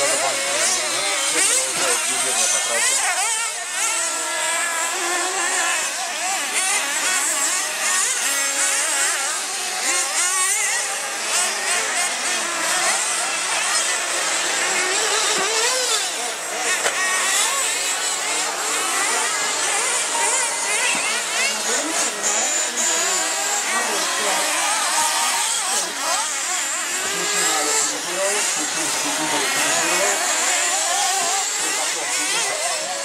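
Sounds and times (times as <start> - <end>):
rc buggy engines revving: 0.0 - 33.0.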